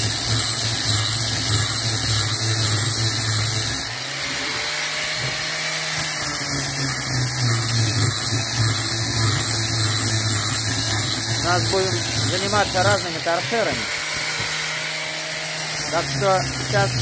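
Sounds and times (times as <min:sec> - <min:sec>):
angle grinder grinding steel: 0:00.0 - 0:17.0.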